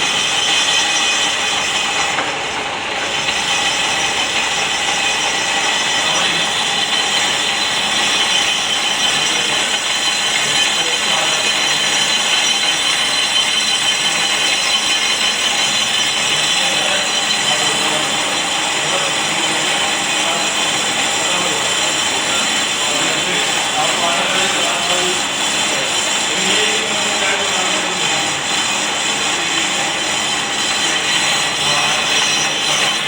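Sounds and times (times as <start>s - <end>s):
high-pitched ringing squeal: 0.0s - 33.0s
lathe tool scraping rotor: 0.0s - 33.0s.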